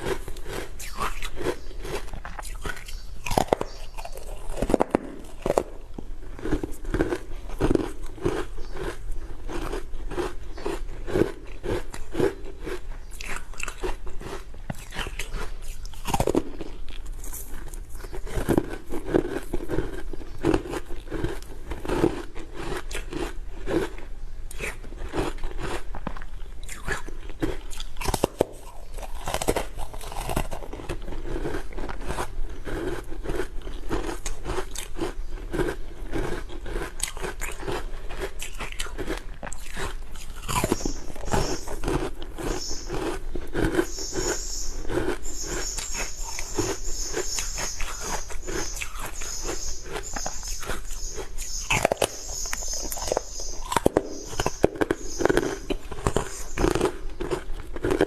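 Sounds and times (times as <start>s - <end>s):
frozen ice being chewed: 0.0s - 58.0s.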